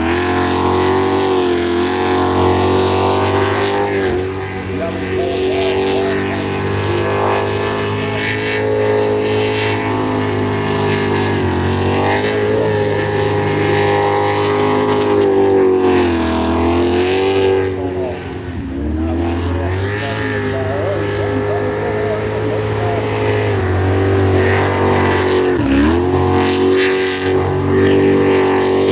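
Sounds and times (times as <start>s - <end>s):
boat engine at high revs: 0.0s - 28.9s.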